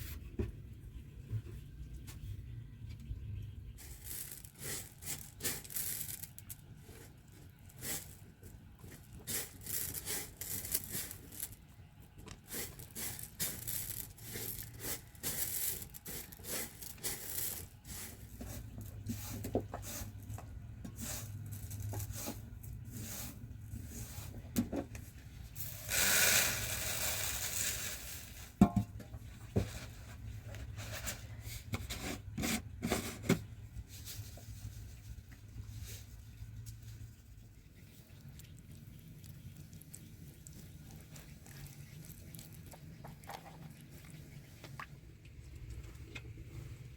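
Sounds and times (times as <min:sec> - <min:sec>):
rubbing and rustling: 0:03.7 - 0:11.7, 0:12.3 - 0:45.0.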